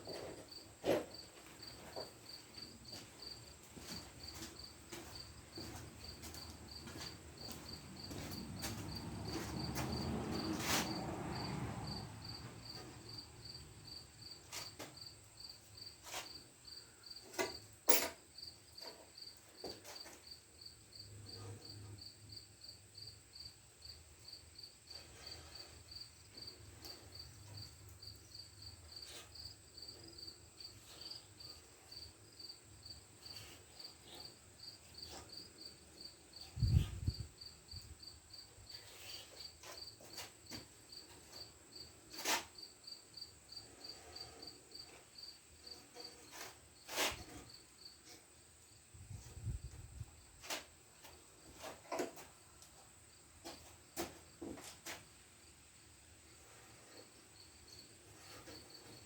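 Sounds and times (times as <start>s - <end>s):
cricket chirping: 0.0s - 51.2s.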